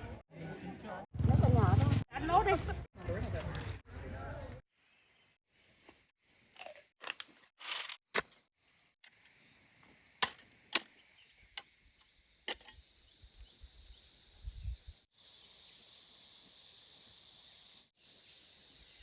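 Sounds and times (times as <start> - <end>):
insect chorus: 3.1 - 19.0.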